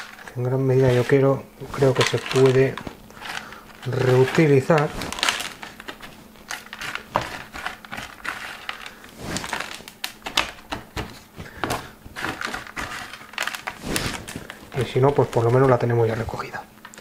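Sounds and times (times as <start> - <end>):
soil crackling into a plastic pot: 0.0 - 10.6, 11.4 - 17.0.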